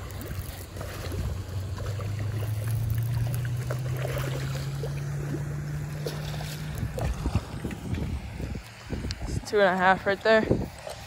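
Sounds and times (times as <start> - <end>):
fish splashing at the surface: 0.0 - 9.2
low hum: 0.0 - 11.0.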